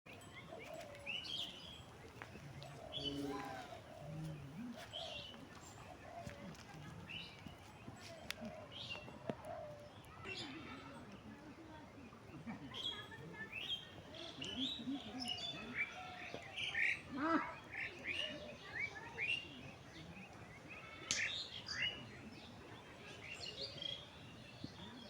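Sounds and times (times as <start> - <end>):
birds chirping: 0.1 - 25.0.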